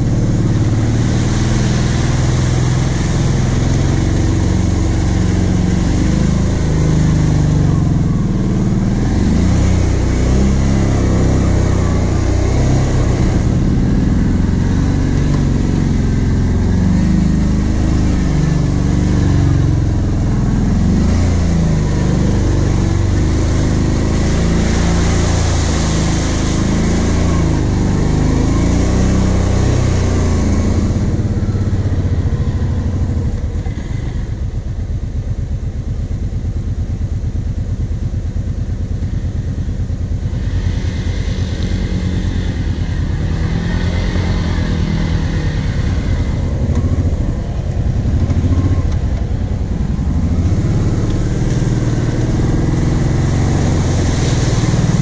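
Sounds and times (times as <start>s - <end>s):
quad bike engine revving: 0.0s - 35.0s, 38.1s - 55.0s
water and mud splashing: 0.0s - 55.0s.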